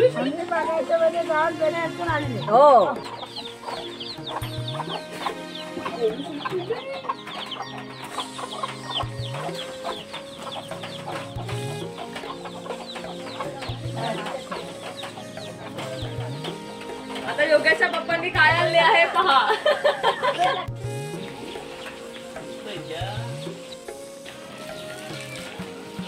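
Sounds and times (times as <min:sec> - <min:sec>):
background music: 0:00.0 - 0:26.0
chickens clucking: 0:00.0 - 0:26.0.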